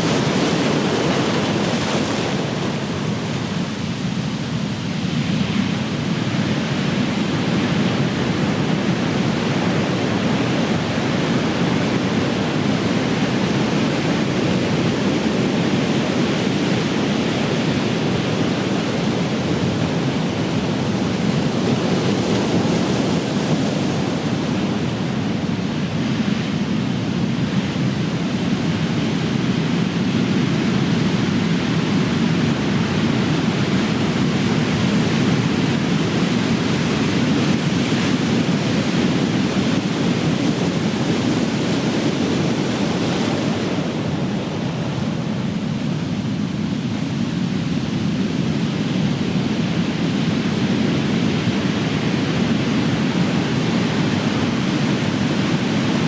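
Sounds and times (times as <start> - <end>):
ocean waves breaking: 0.0 - 28.1, 30.9 - 56.0.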